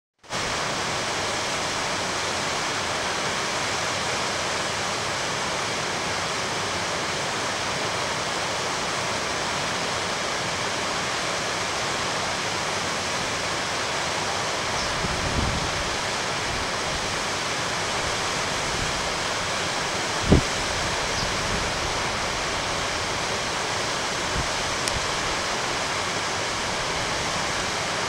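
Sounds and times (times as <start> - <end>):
river running over stones: 0.2 - 28.0.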